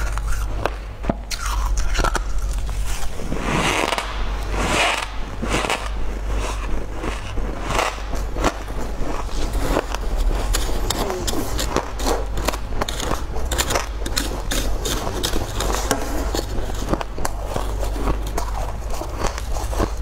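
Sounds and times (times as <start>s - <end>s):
food crackling while eating: 0.0s - 20.0s
steady low hum: 0.0s - 20.0s.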